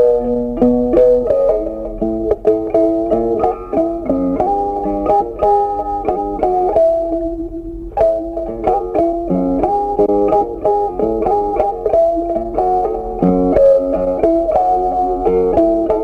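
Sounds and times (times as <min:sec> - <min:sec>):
plucked guitar tune: 0:00.0 - 0:16.0.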